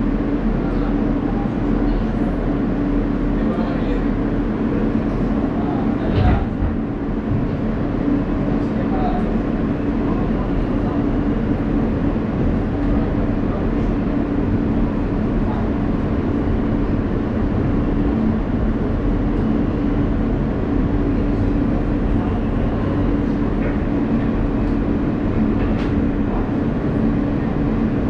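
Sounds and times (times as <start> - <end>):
constant low hum: 0.0 - 28.0
subway car rolling rumble: 0.0 - 28.0.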